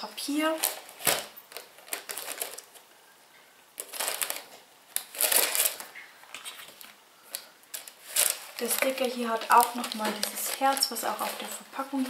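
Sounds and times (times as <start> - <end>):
tissue paper rustling: 0.3 - 2.8, 3.8 - 12.0.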